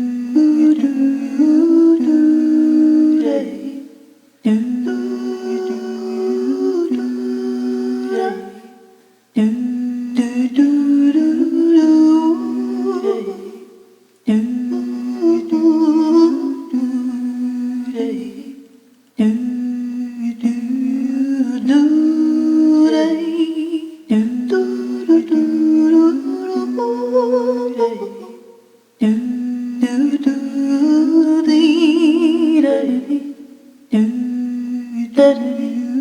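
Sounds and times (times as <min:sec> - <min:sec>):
women singing in harmony: 0:00.0 - 0:36.0.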